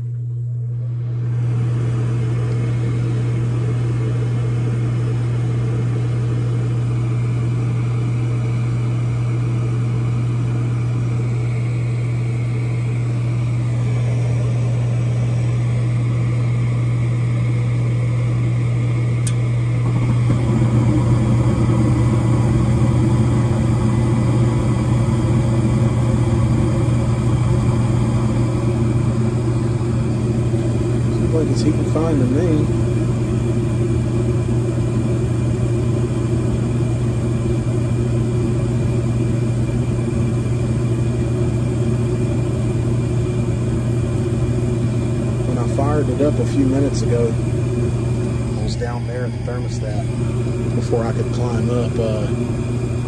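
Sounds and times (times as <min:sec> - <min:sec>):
furnace inducer motor hum: 0:00.0 - 0:53.0
gas burners roaring: 0:00.0 - 0:53.0.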